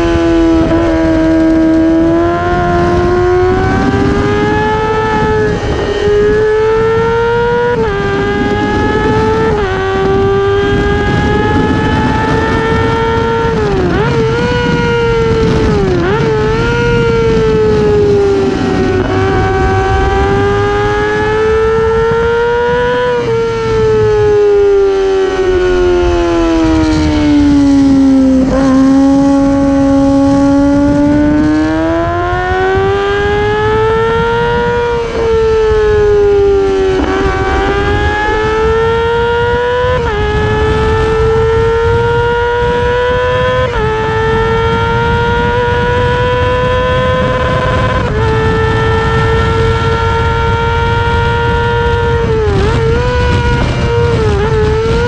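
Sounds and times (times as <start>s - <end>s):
racing motorcycle engine revving: 0.0s - 55.0s
wind rush: 0.0s - 55.0s.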